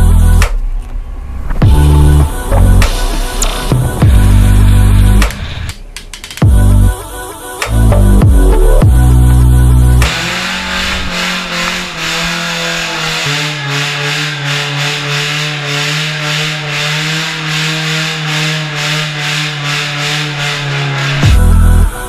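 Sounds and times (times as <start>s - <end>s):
car engine revving high: 0.0s - 5.8s, 7.8s - 22.0s.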